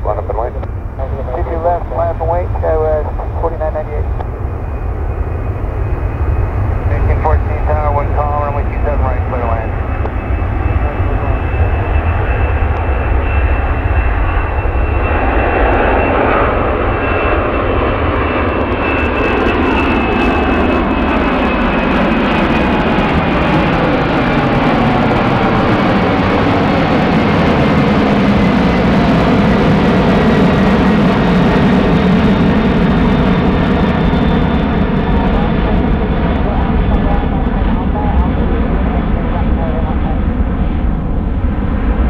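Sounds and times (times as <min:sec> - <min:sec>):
jet engines roaring with high whine: 0:00.0 - 0:42.0.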